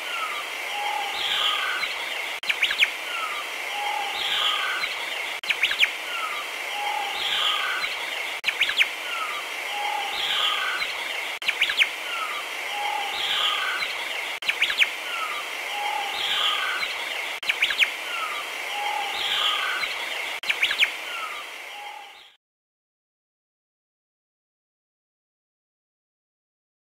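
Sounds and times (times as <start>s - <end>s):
steady high hiss: 0.0s - 22.3s
birdsong and chirps: 0.0s - 22.4s.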